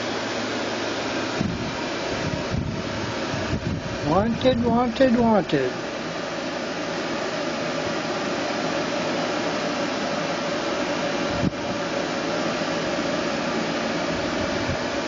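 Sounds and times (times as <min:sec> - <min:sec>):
ceiling fan whirring: 0:00.0 - 0:15.0.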